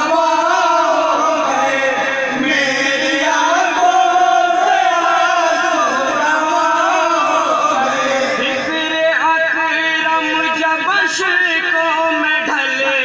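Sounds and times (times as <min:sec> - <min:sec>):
men chanting in unison: 0:00.0 - 0:11.8.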